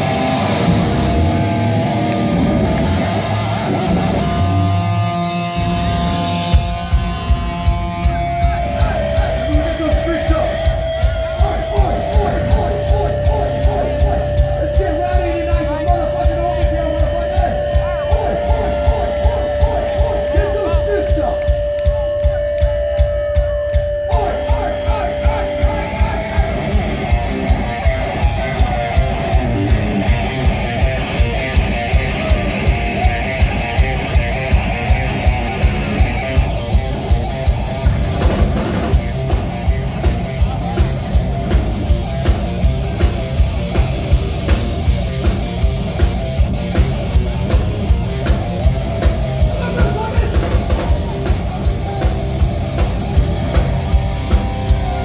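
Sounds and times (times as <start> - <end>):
distorted electric guitar: 0.0 - 55.0
heavy metal band playing: 0.0 - 55.0.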